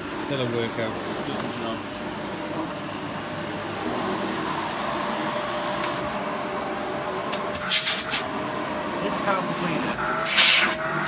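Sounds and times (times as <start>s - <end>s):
vacuum cleaner on carpet: 0.0s - 11.0s.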